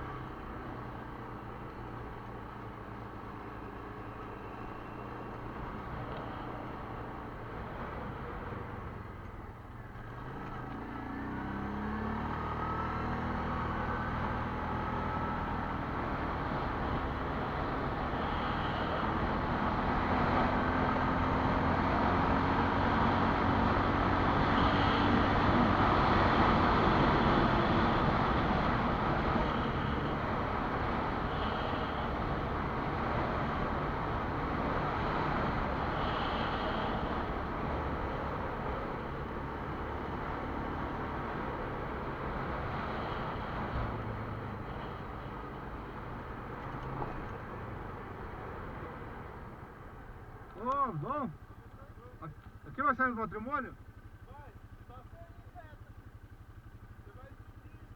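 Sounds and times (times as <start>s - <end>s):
quad bike engine running: 0.0s - 57.9s
rush of travel noise: 0.0s - 57.9s.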